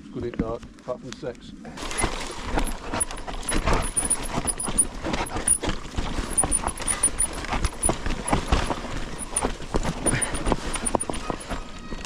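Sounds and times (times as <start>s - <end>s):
bike frame knocks and rattles: 1.8s - 12.0s
bike tyres rumbling over dirt: 1.8s - 12.0s.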